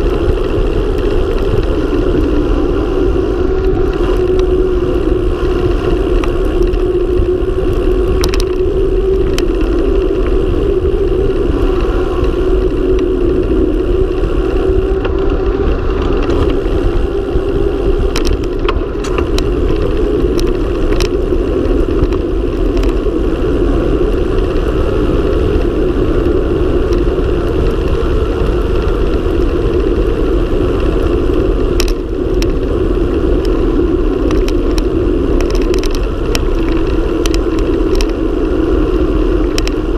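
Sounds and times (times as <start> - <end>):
bike clicks and knocks: 0.0 - 23.4, 25.4 - 39.9
wind rush on microphone: 0.0 - 39.9.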